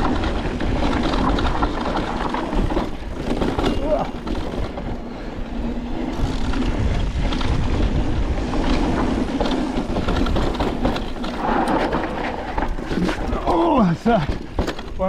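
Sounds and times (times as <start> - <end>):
bike knocking over rocks: 0.0 - 5.0, 6.2 - 15.0
tyre and trail noise: 0.0 - 15.0.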